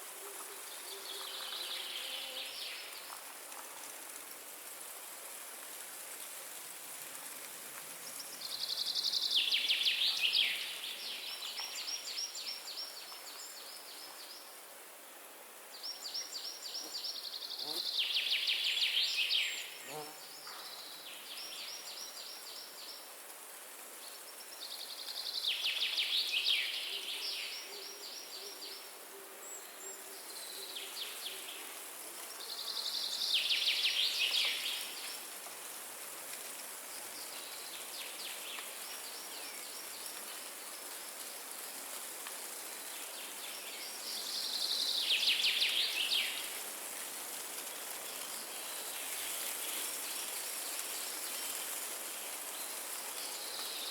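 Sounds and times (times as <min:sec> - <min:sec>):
wind in trees: 0:00.0 - 0:53.9.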